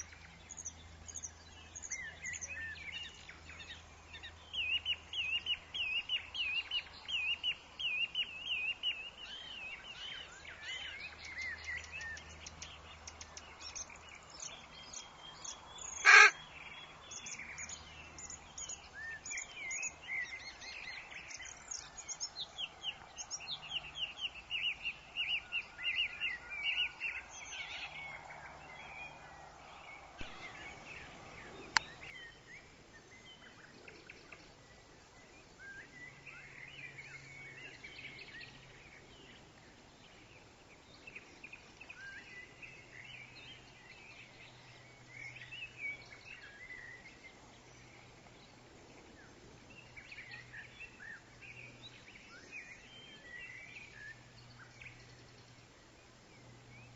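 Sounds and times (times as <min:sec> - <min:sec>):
birds chirping: 0:00.0 - 0:56.9
wind in trees: 0:00.0 - 0:56.9.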